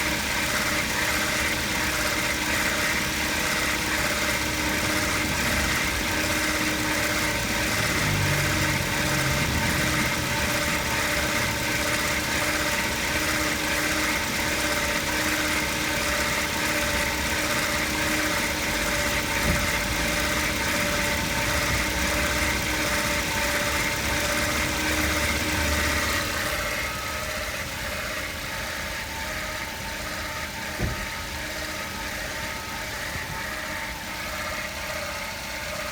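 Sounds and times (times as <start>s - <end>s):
car engine idling: 0.0s - 35.9s
whirring whine: 0.0s - 35.9s.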